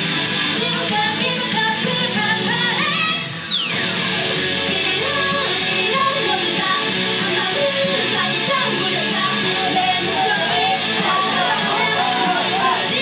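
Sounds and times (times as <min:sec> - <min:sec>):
woman singing over backing track: 0:00.5 - 0:03.2, 0:04.7 - 0:13.0.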